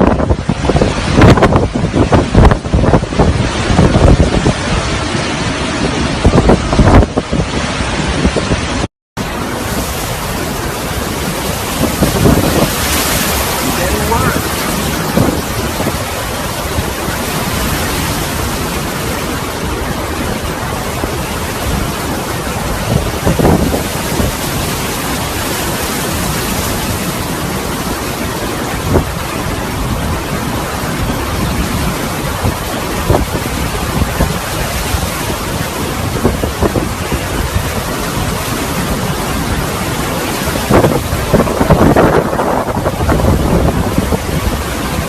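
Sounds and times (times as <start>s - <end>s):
driving rain: 0.0s - 45.0s
hurricane wind buffeting microphone: 0.0s - 45.0s.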